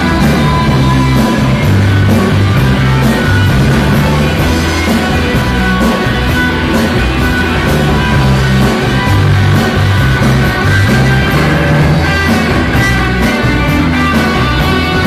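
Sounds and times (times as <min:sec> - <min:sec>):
electric guitar: 0:00.0 - 0:15.0
low bass notes: 0:00.0 - 0:15.0.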